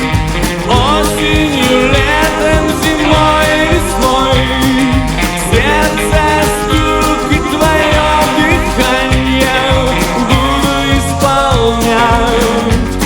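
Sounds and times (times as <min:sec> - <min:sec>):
country rock band playing: 0:00.0 - 0:13.0.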